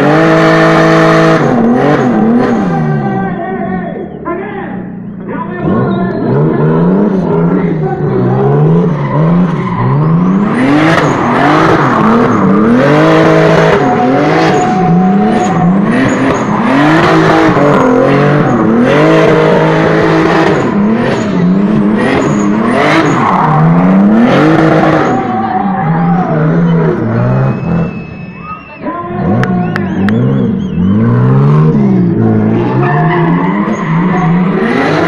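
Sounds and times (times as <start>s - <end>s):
car engine revving: 0.0s - 35.0s
tyres squealing: 5.6s - 35.0s.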